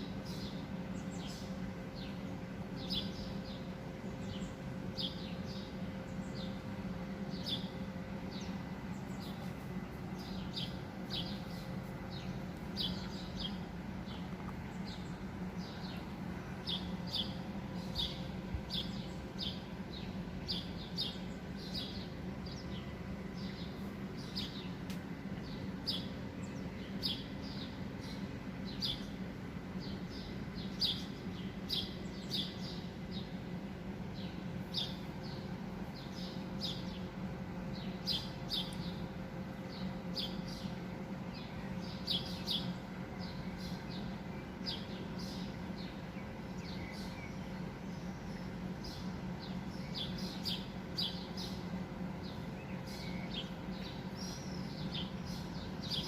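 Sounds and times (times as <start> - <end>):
low background rumble: 0.0 - 56.0
small birds chirping: 0.0 - 56.0.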